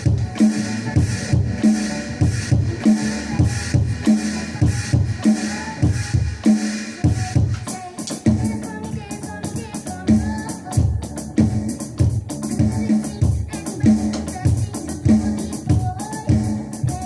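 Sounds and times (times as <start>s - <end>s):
band playing instrumental music: 0.0s - 16.0s.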